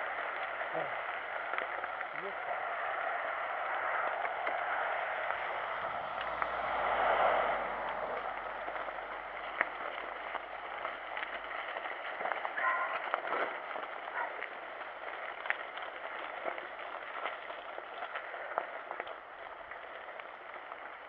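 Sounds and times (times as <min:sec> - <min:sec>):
small clicks from stones and bike: 0:00.0 - 0:21.0
tyres hissing on wet gravel: 0:00.0 - 0:21.0
wind noise: 0:00.0 - 0:21.0.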